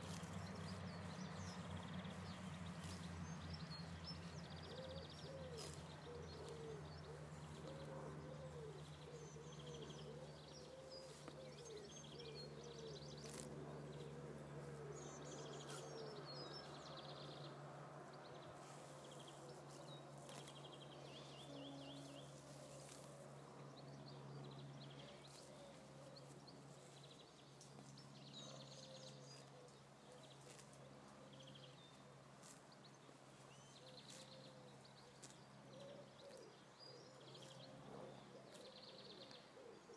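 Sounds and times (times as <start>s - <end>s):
grass being torn and chewed: 0.0s - 16.8s, 17.4s - 39.4s
small birds chirping: 0.0s - 39.9s.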